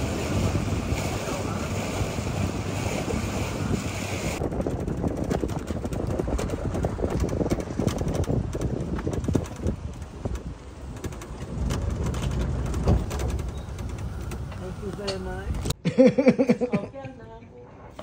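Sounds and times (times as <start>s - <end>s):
boat rushing across water: 0.0s - 15.8s
low rumble with clicks and rattles: 0.0s - 15.8s
wind buffeting microphone: 0.0s - 15.8s.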